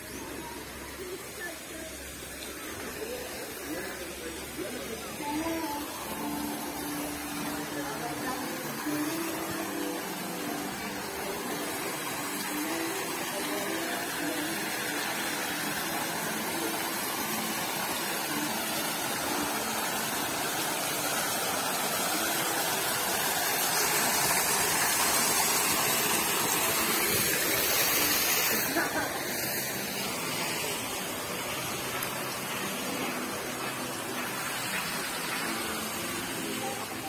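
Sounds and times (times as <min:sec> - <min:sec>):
waterfall splashing into pool: 0:00.0 - 0:37.0.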